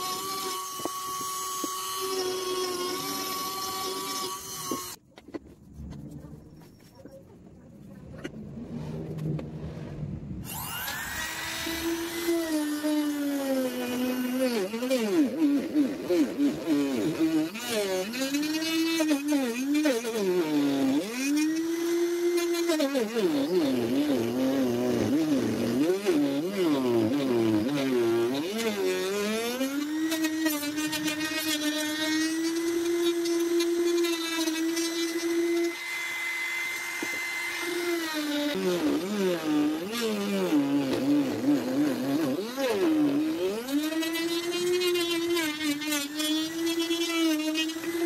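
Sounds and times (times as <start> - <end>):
router cutting wood: 0.0 - 5.0, 10.4 - 48.0.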